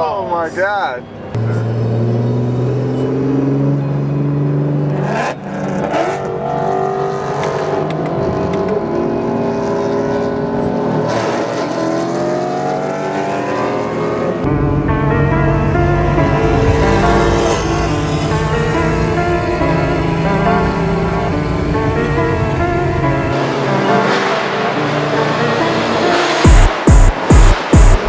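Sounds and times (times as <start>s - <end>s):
sports car engine accelerating: 1.3s - 28.0s.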